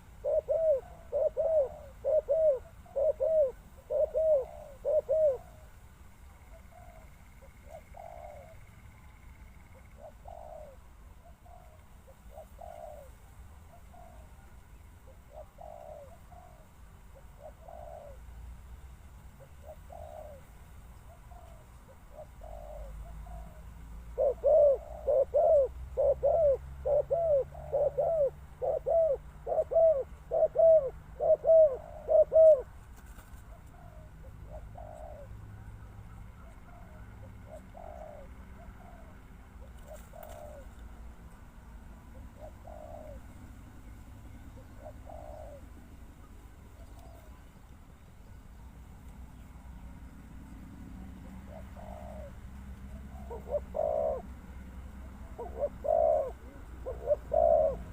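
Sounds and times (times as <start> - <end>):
doves cooing: 0.0 - 8.8, 9.7 - 18.4, 19.4 - 47.6, 49.6 - 57.9.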